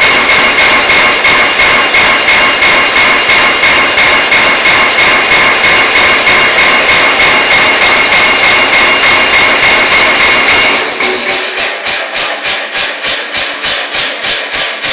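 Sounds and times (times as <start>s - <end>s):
forging hammer blows: 0.0s - 14.9s
steady mechanical noise: 0.0s - 14.9s.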